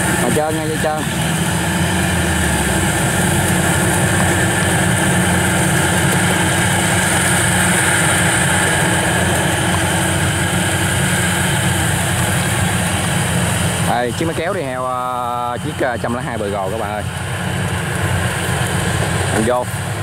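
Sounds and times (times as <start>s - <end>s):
combine harvester drone: 0.0s - 20.0s.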